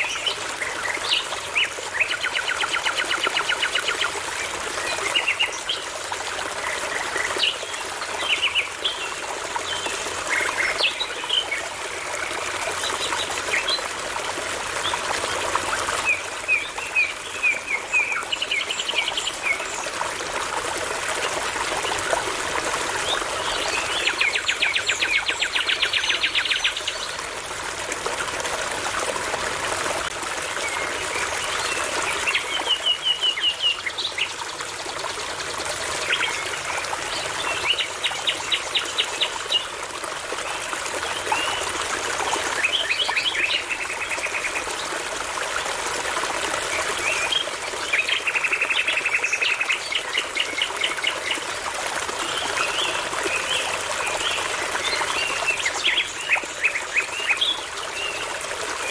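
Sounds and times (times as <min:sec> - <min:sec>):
brook babbling: 0:00.0 - 0:58.9.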